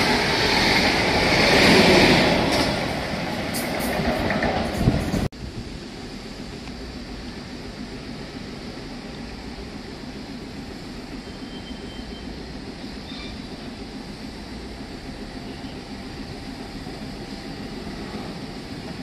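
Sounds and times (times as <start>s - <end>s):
train rumble and hiss: 0.0s - 19.0s.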